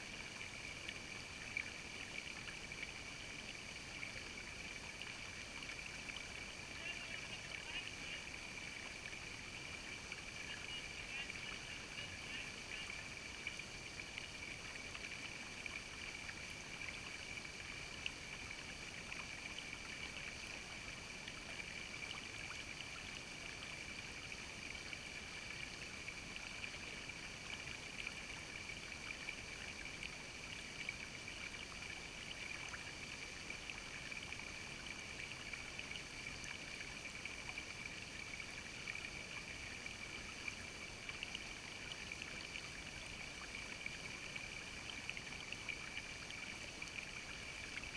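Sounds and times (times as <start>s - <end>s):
creek water running over rocks: 0.0s - 47.9s.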